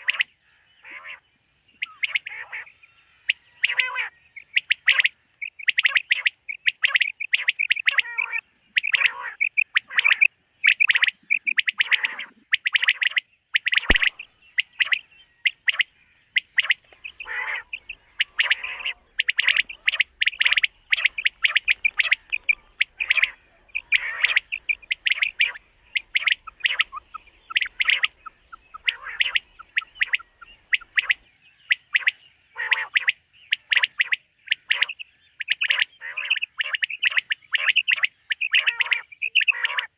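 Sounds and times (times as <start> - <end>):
quail calling: 0.0 - 1.2, 1.8 - 39.9.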